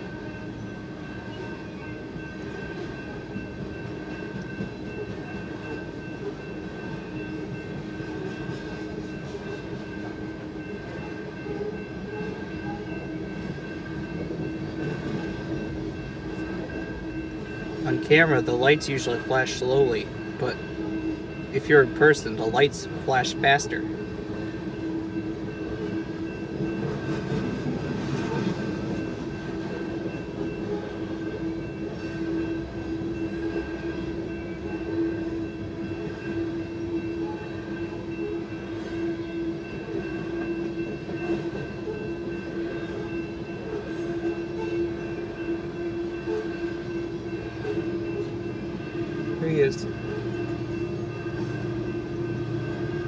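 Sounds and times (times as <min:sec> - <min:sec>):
freight train rolling: 0:00.0 - 0:53.0.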